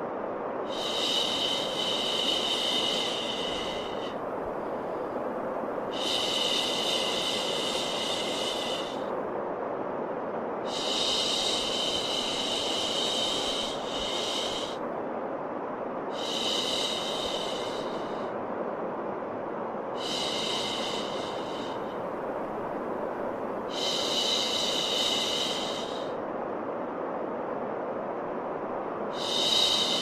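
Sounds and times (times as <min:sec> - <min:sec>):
steady white noise: 0:00.0 - 0:30.0.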